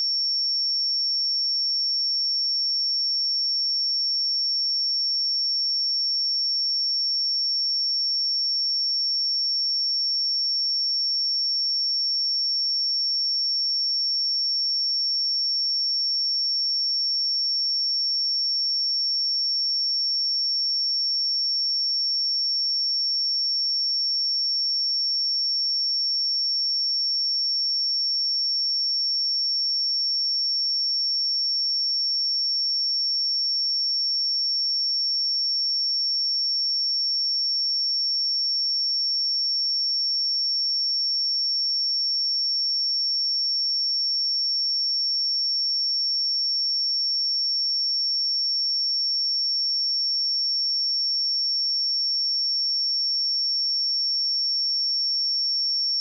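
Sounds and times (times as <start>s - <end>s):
high-pitched sine-wave test tone: 0.0s - 56.0s.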